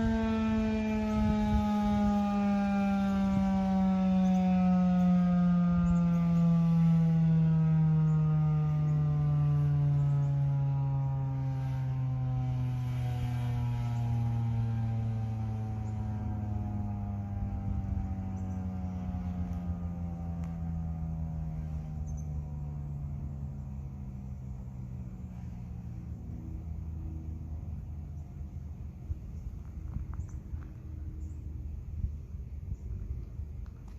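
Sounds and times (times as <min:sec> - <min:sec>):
outdoor warning siren winding down: 0:00.0 - 0:33.9.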